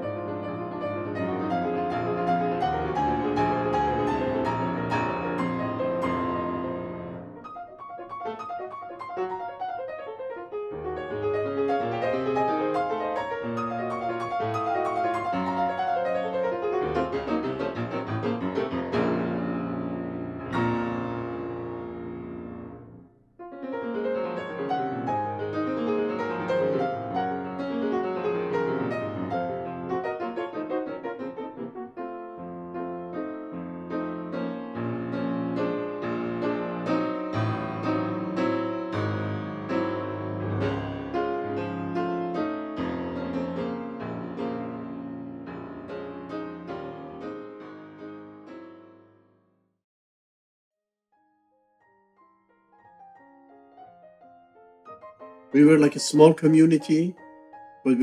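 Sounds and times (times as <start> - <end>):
piano music: 0.0 - 49.3, 51.5 - 58.0.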